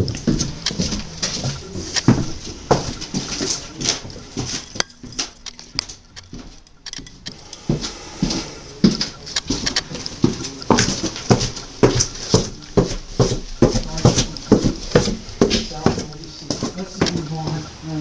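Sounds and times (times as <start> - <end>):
footsteps on wooden stairs: 0.0 - 6.6, 7.6 - 18.0.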